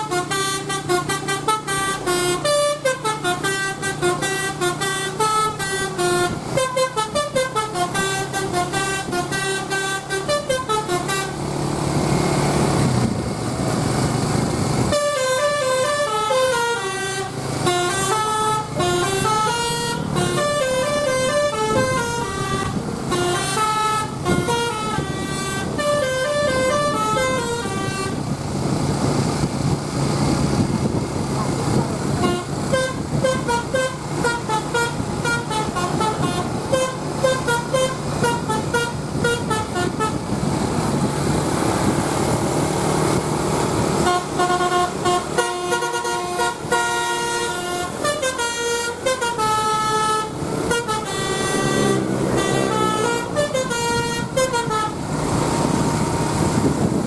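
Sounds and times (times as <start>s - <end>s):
musical bus horn playing tunes: 0.0s - 11.6s, 14.8s - 28.4s, 32.0s - 40.9s, 43.8s - 57.0s
bus engine noise: 0.0s - 57.0s.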